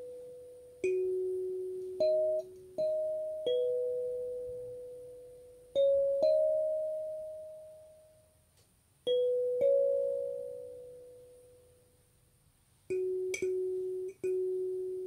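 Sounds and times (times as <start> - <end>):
kalimba notes: 0.0 - 8.2, 9.1 - 11.5, 12.9 - 15.0.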